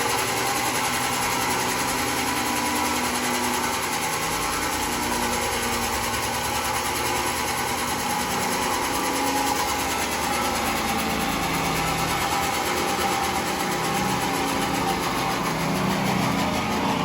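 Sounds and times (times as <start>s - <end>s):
sawmill machinery droning: 0.0s - 17.0s.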